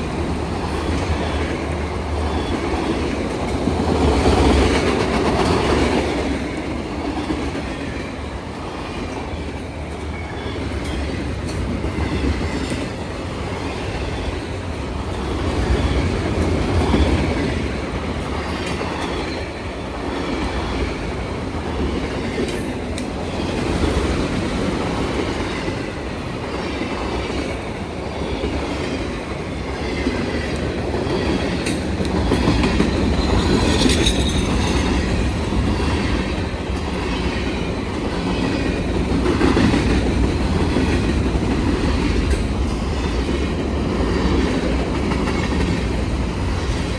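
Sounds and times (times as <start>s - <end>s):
freight train cars rumbling: 0.0s - 46.9s.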